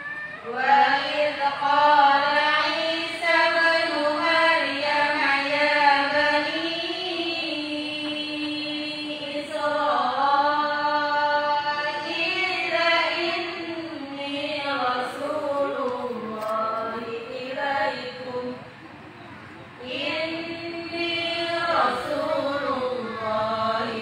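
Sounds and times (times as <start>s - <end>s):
women chanting in unison: 0.4s - 18.7s, 19.8s - 24.0s.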